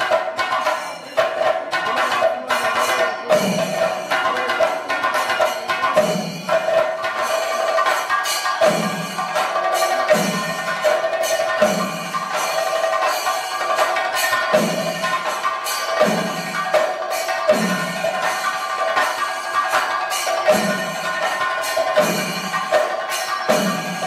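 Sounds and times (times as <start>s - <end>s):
hand cymbals ringing: 0.0s - 24.0s.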